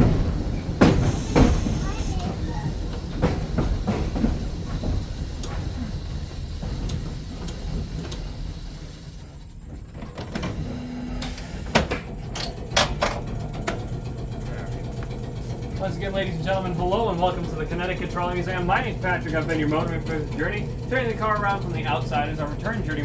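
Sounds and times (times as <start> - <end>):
trolley car running on rails: 0.0 - 23.0
wheels clicking over rail joints: 0.0 - 23.0.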